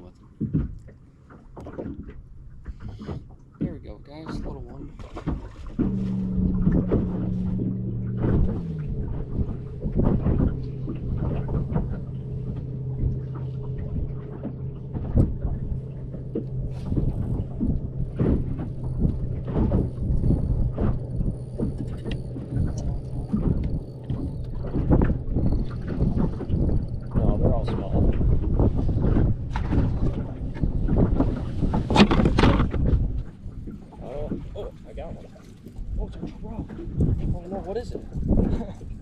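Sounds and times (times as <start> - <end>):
boat motor humming: 0.0 - 39.0
knocks and buffets: 1.6 - 34.7.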